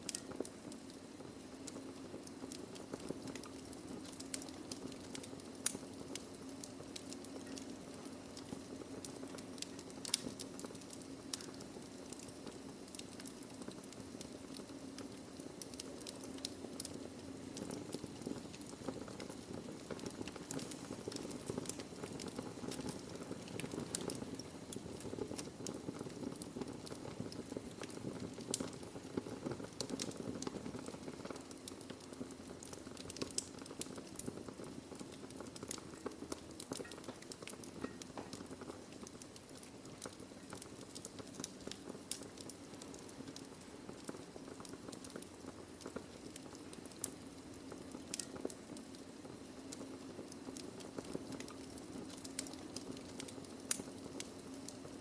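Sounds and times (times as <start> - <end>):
low fire rumble: 0.0 - 55.0
wood fire crackling and popping: 0.0 - 55.0.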